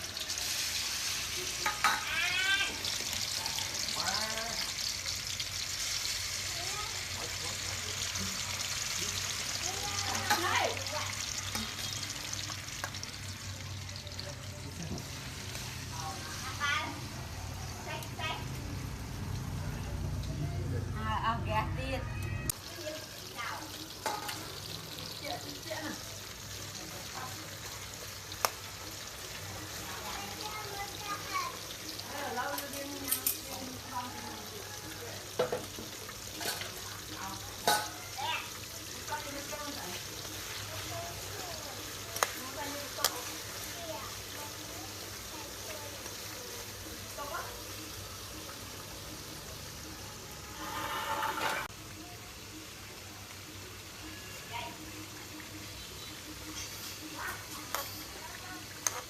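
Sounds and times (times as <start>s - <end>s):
chicken sizzling in a pan: 0.0s - 59.0s.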